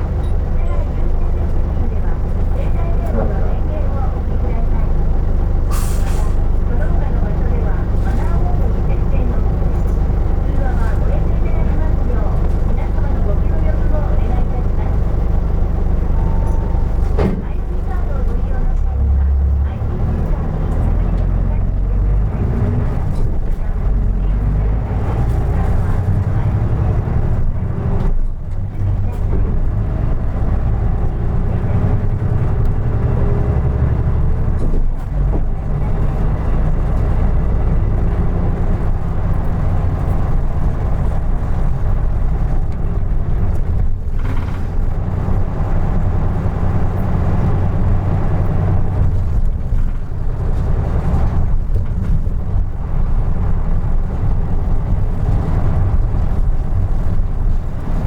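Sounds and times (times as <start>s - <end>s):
bus engine drone: 0.0s - 58.0s.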